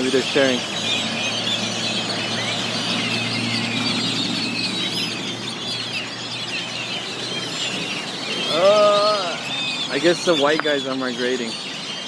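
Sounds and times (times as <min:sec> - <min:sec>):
flock of blackbirds chattering: 0:00.0 - 0:12.0.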